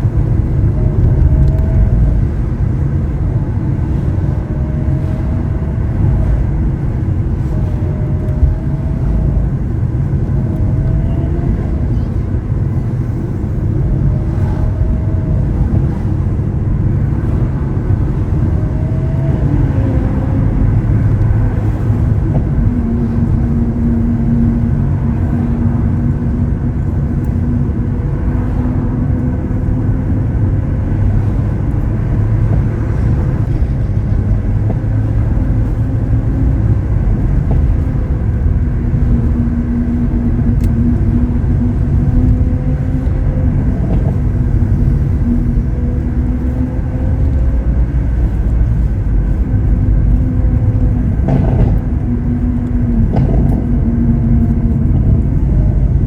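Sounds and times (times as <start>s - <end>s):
car engine drone: 0.0s - 56.0s
road and wind rumble: 0.0s - 56.0s.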